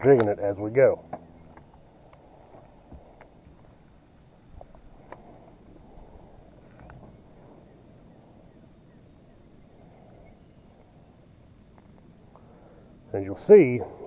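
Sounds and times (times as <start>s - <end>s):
faint outdoor background noise: 0.0s - 14.0s.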